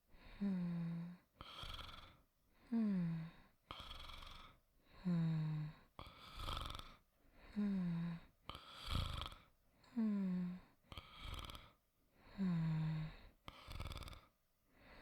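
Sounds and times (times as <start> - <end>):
person snoring softly: 0.2 - 15.0.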